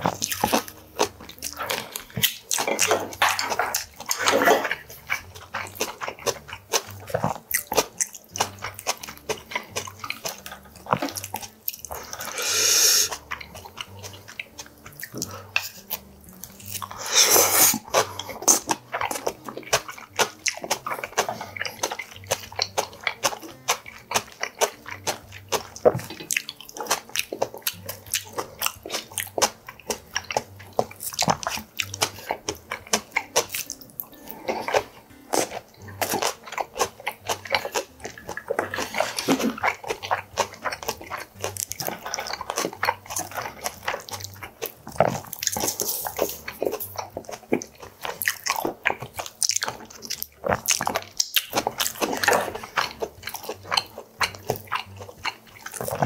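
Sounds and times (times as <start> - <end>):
close chewing and crunching: 0.0 - 56.0.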